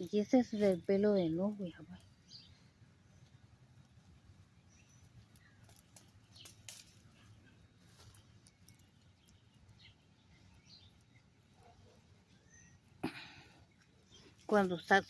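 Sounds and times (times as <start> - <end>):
low background noise: 0.0 - 15.0
small birds chirping: 0.0 - 15.0.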